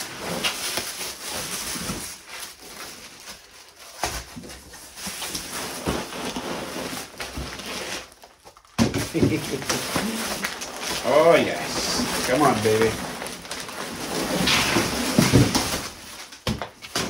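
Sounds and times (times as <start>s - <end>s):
foam and cardboard rustling: 0.0s - 17.0s
plastic wrap crinkling: 0.0s - 17.0s.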